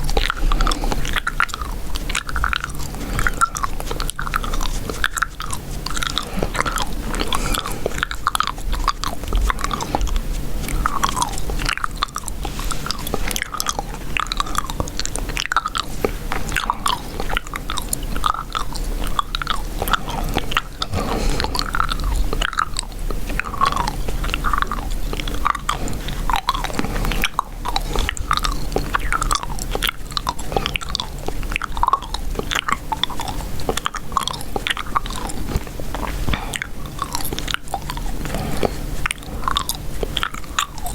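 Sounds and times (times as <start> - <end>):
gum chewing clicks and pops: 0.0 - 40.9.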